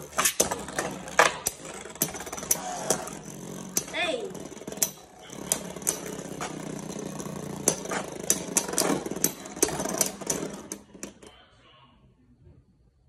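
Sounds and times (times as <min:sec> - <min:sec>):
spinning tops clattering together: 0:00.0 - 0:11.2
spinning tops whirring: 0:00.0 - 0:11.3.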